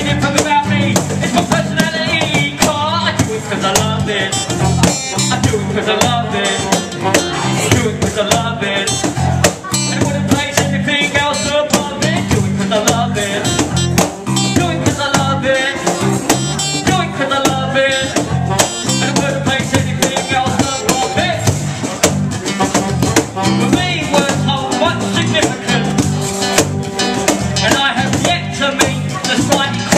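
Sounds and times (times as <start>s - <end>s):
bass guitar: 0.0s - 29.9s
cajon played by hand: 0.0s - 29.9s
strummed acoustic guitar: 0.0s - 29.9s.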